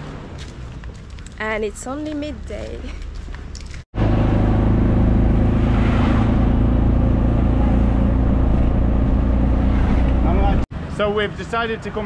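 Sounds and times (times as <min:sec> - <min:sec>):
road and wind noise: 0:00.0 - 0:12.0
vehicle engine humming: 0:00.0 - 0:12.0.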